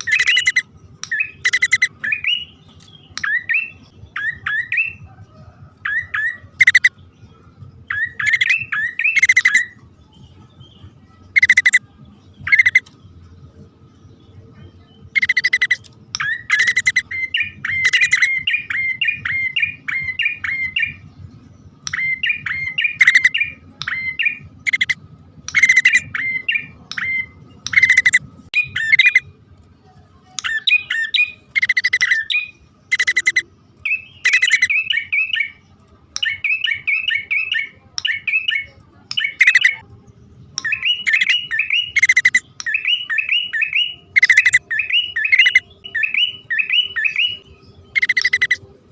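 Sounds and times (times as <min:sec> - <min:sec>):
bird chirping calls: 0:00.0 - 0:29.4, 0:30.2 - 0:48.9.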